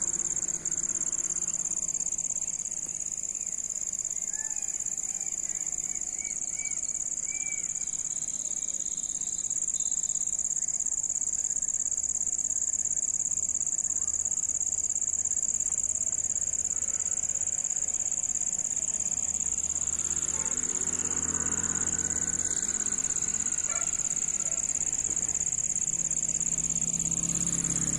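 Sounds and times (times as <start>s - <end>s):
insects trilling: 0.0s - 27.9s.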